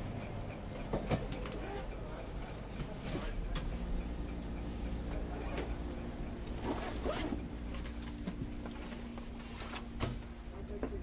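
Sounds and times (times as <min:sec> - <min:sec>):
train onboard systems humming: 0:00.0 - 0:11.0.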